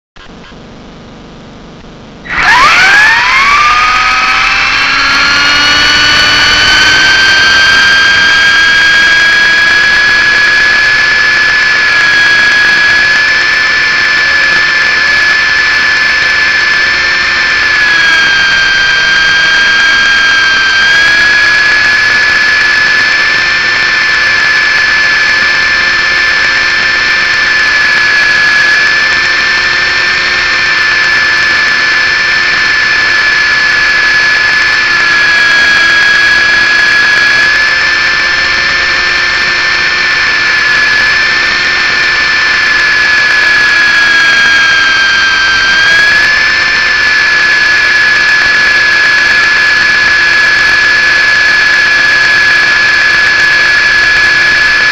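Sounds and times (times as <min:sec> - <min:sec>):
toy helicopter motor whining: 0:02.2 - 0:54.9.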